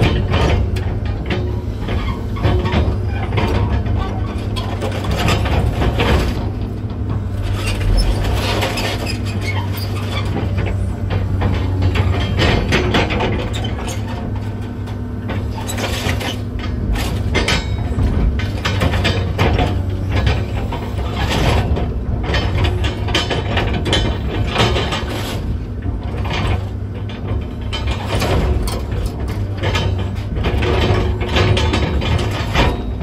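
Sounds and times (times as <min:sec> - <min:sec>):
demolition debris clanking: 0:00.0 - 0:33.0
excavator diesel engine running: 0:00.0 - 0:33.0.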